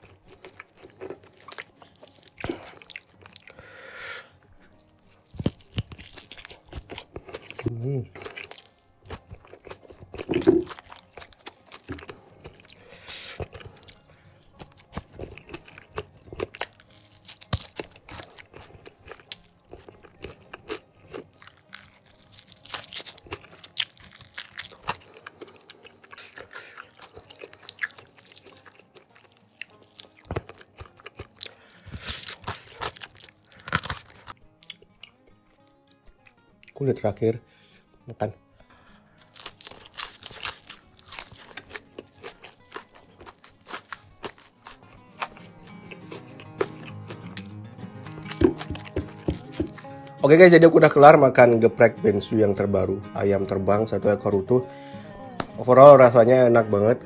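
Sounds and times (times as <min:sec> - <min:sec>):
chewing and crunching fried chicken: 0:00.0 - 0:03.8, 0:04.4 - 0:36.8, 0:38.7 - 0:50.8.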